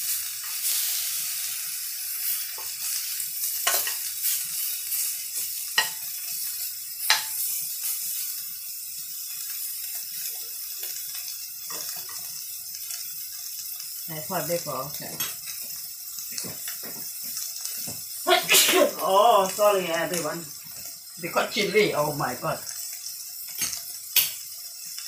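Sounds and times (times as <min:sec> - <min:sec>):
meat sizzling in a wok: 0:00.0 - 0:25.0.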